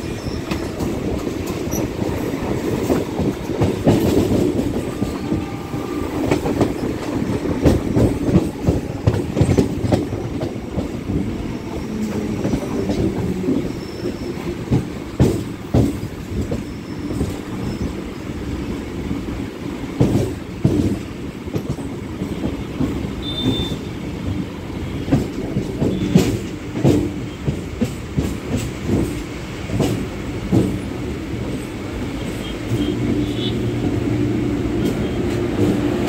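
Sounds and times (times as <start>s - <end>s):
wheels clacking over rail joints: 0.0s - 18.5s, 19.2s - 36.0s
train wheels rumbling on rails: 0.0s - 36.0s.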